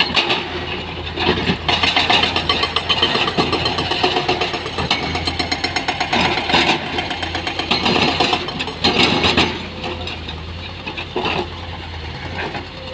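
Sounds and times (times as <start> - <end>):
heavy diesel machinery running: 0.0 - 12.9.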